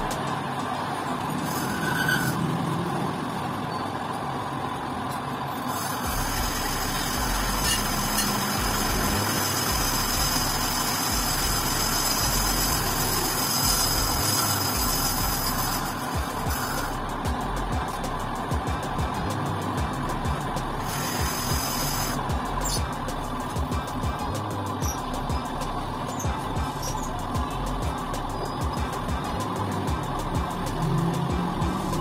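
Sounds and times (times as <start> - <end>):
high whine: 0.0 - 32.0
metal lathe running: 0.0 - 32.0
deep hum: 6.1 - 32.0.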